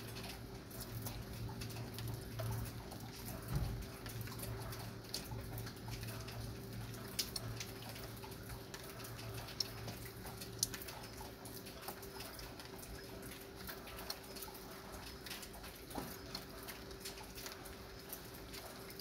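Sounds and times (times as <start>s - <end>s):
low steady hum: 0.0s - 19.0s
raindrops pattering: 0.0s - 19.0s.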